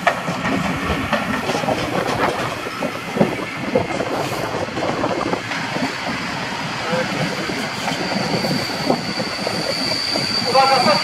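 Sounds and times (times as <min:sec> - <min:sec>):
train wheels rumbling and clicking: 0:00.0 - 0:11.0.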